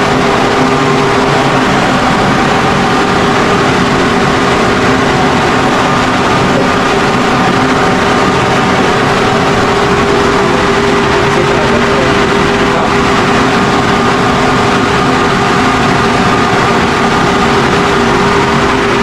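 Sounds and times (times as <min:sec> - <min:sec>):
motor humming loudly: 0:00.0 - 0:19.0.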